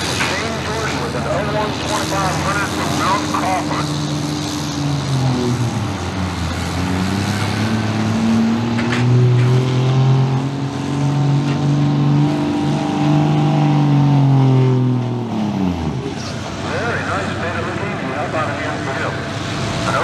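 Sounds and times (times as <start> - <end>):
diesel engine at full throttle: 0.0 - 20.0.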